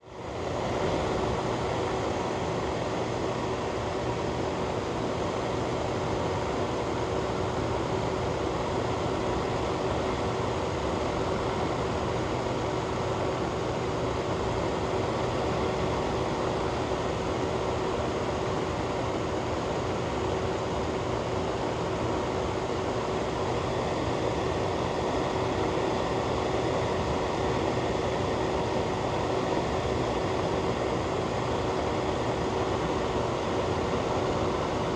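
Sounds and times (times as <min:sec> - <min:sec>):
fan running: 0:00.0 - 0:34.9.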